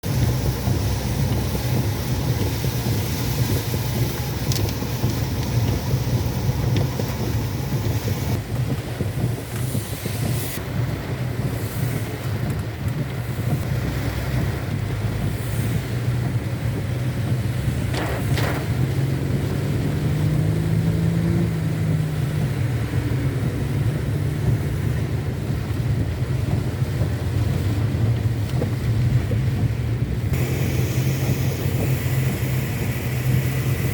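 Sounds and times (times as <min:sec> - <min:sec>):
car rumble: 0:00.0 - 0:33.9
rain hiss: 0:00.0 - 0:33.9.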